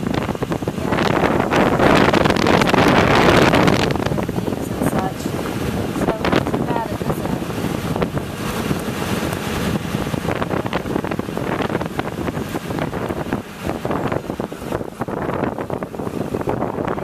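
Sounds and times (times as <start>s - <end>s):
wind on camera microphone: 0.0s - 17.0s.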